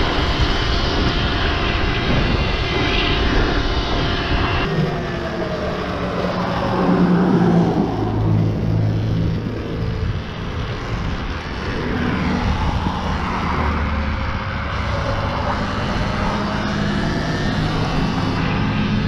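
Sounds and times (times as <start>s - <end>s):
electric motor whine: 0.0s - 19.0s
wind rushing over microphone: 0.0s - 19.0s.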